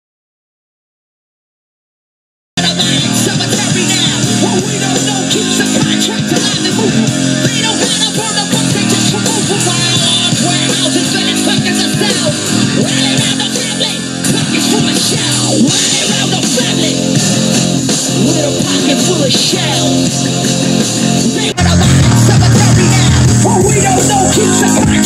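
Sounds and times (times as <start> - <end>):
song with singing over bass line: 2.6 - 25.0.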